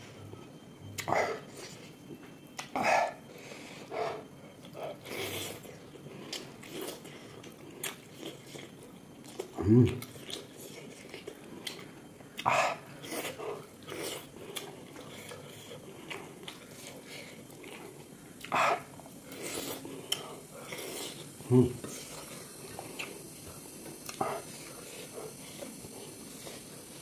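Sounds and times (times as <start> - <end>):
person chewing: 0.2 - 2.9, 4.5 - 27.0.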